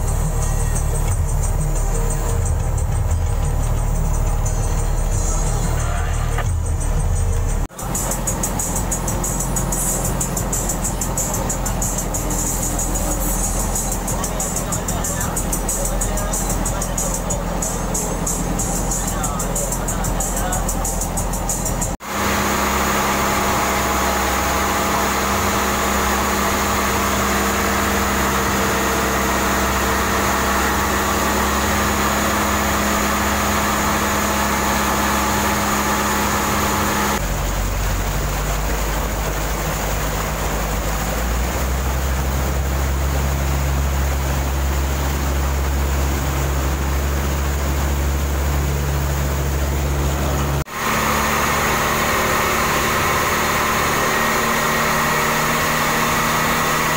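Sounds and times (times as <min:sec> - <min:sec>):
diesel boat engine running: 0:00.0 - 0:56.9.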